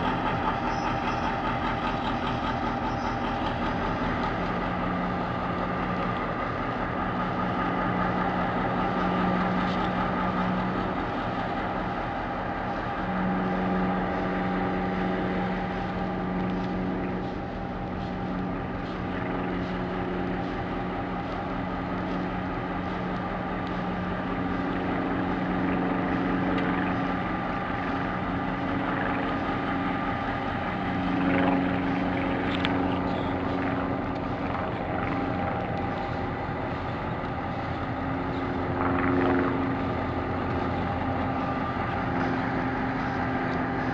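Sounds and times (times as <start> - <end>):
diesel locomotive idling: 0.0 - 43.9.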